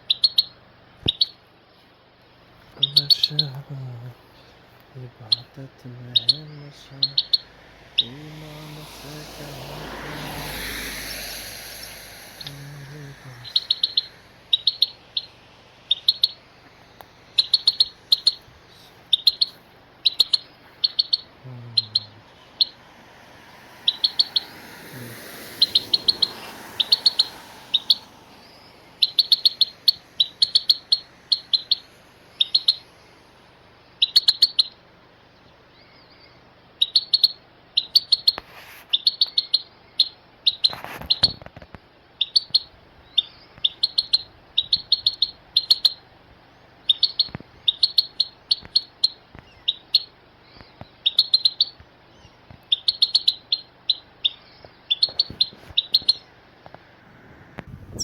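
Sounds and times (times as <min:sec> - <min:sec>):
small bird chirping: 0:00.0 - 0:01.8, 0:02.6 - 0:56.4, 0:57.7 - 0:58.0.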